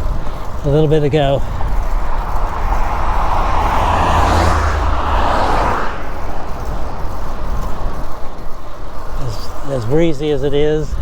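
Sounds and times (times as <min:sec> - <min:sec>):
wind rumble on microphone: 0:00.0 - 0:09.3
car tyres hissing on wet road: 0:00.0 - 0:10.6.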